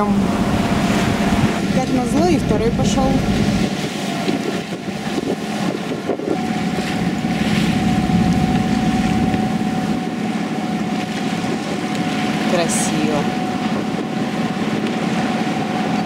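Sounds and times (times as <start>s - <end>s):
boat motor drone: 0.0s - 16.0s
rushing water: 0.0s - 16.0s
wind on microphone: 0.0s - 16.0s.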